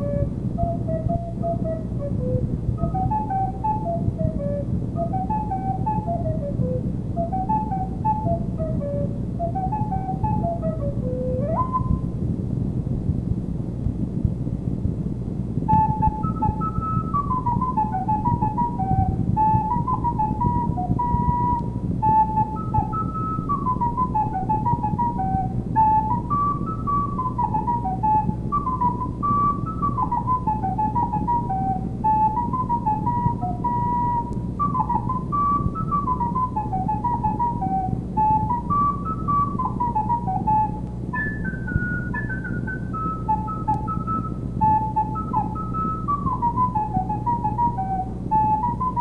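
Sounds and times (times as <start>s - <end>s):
recorder melody: 0.0s - 12.3s, 15.4s - 49.0s
low hum: 0.0s - 49.0s.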